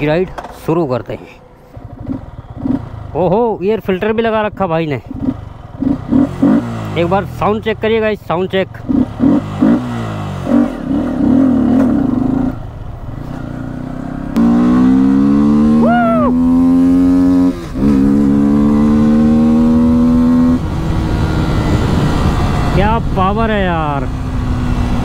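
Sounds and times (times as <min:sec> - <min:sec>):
motorcycle engine revving: 0:01.7 - 0:03.3, 0:05.1 - 0:07.8, 0:08.5 - 0:25.0.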